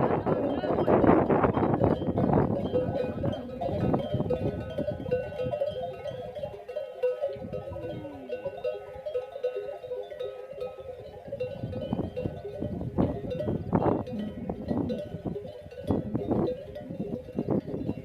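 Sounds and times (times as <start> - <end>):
camel bells clanking: 0.0 - 18.0.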